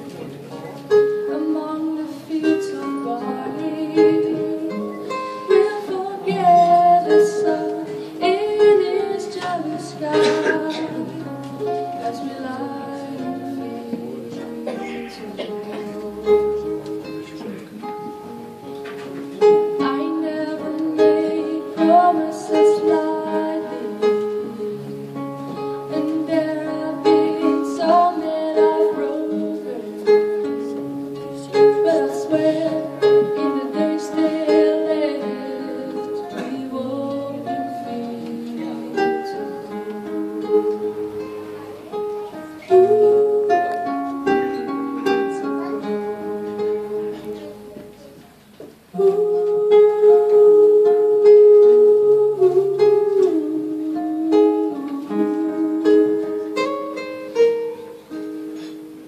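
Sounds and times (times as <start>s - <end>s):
acoustic guitars fingerpicking: 0.0s - 59.0s.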